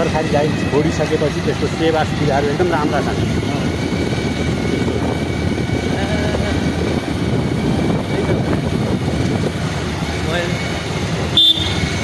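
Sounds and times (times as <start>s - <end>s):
low rumbling noise: 0.0s - 12.0s.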